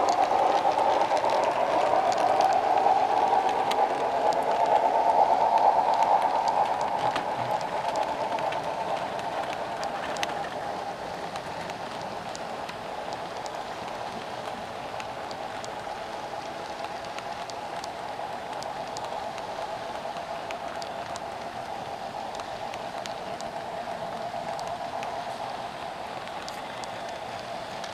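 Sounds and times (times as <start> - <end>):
model train wheels on rails: 0.0 - 27.9.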